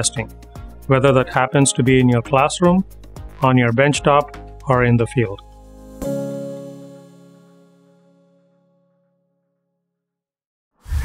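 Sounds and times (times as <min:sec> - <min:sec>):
soft background music: 0:00.0 - 0:09.2.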